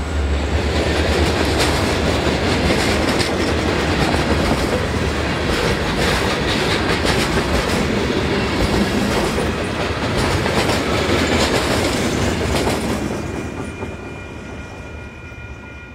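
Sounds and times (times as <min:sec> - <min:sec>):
freight train wheels clattering: 0:00.6 - 0:14.3.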